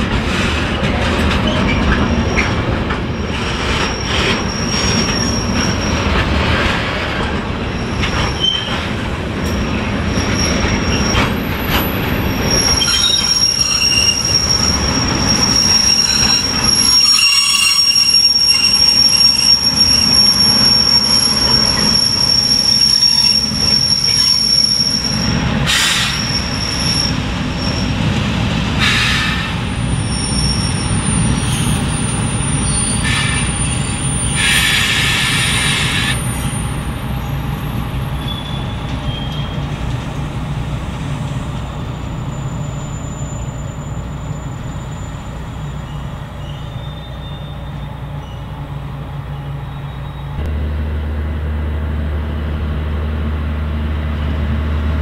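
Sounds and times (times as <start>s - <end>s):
diesel locomotive engine rumble: 0.0s - 55.0s
train wheels squealing on rails: 0.3s - 50.5s.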